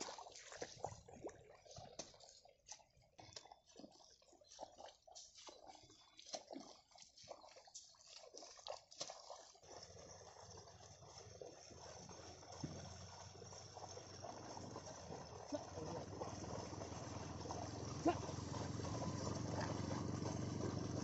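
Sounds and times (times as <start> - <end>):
water dripping in mud: 0.0 - 21.0.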